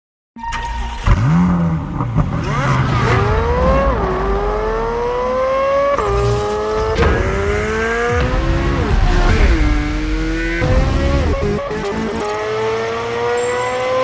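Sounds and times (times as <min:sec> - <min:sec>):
car engine accelerating hard: 0:00.9 - 0:14.0.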